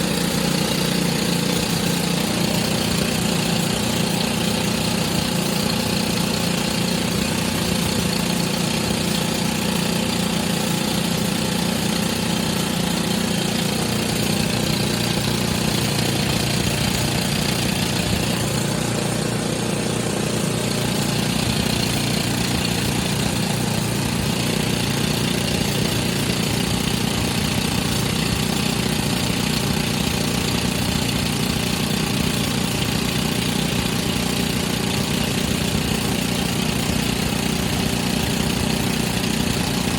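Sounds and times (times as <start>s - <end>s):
drill machine diesel engine drone: 0.0s - 39.9s.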